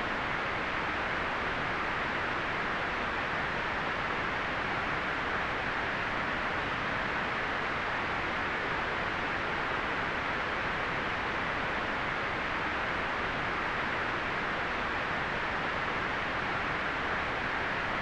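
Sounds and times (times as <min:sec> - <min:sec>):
steady white noise hiss: 0:00.0 - 0:18.0.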